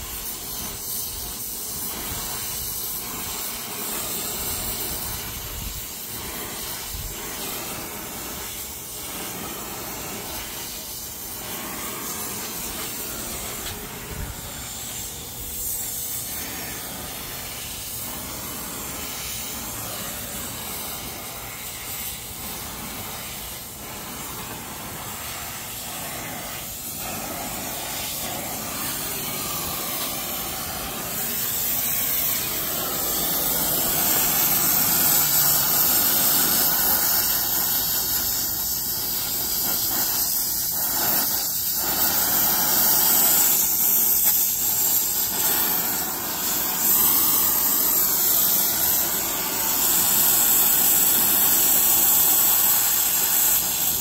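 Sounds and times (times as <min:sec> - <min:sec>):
torch flame hissing: 0:00.0 - 0:54.0.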